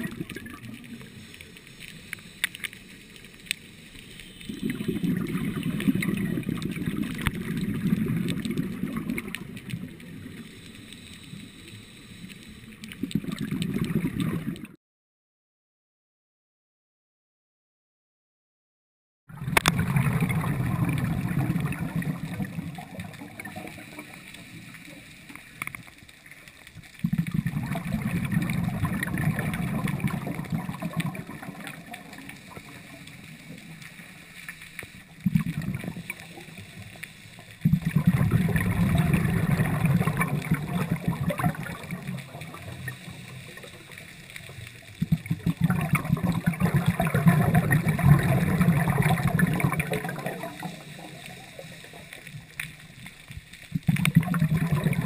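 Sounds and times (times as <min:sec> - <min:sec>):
diver's exhaled bubbles gurgling: 0:00.0 - 0:11.0, 0:12.7 - 0:14.8, 0:19.3 - 0:55.0.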